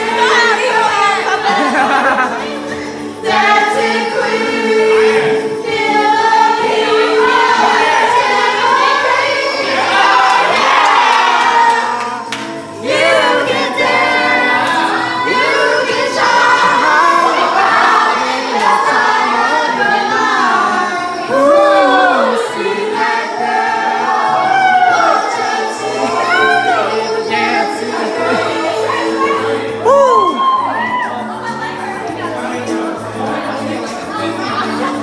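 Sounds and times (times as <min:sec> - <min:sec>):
group singing karaoke: 0:00.0 - 0:35.0.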